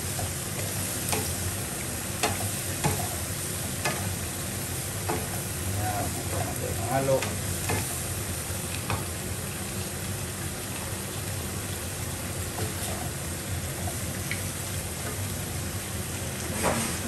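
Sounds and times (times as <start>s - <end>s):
squid sizzling in frying pan: 0.0s - 17.0s.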